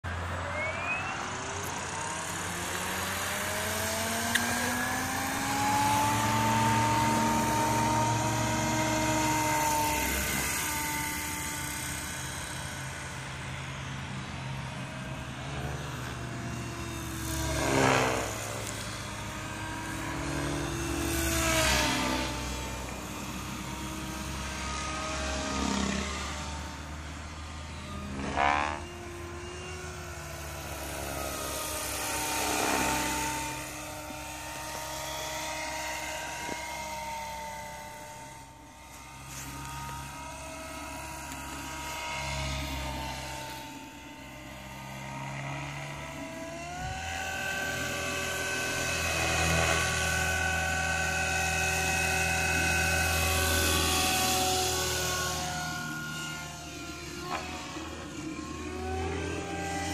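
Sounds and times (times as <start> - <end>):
helicopter motor and rotor whining: 0.0 - 59.9.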